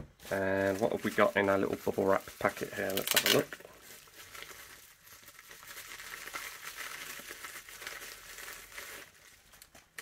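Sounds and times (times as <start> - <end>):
bubble wrap crinkling: 0.0 - 10.0
plastic bag pulled out: 0.1 - 10.0.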